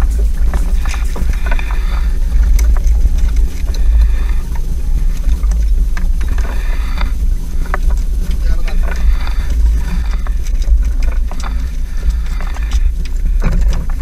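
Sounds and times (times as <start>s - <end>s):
boat engine low rumble: 0.0s - 14.0s.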